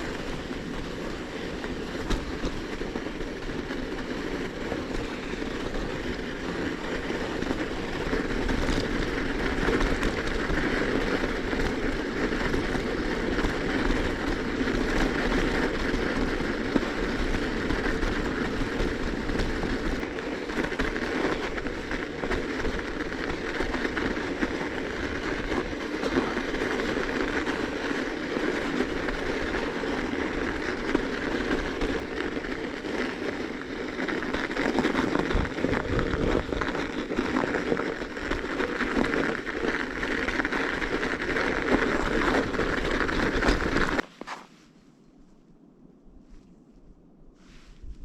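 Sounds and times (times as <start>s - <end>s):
bicycle tyres crackling on snow: 0.0s - 45.6s, 46.2s - 48.0s.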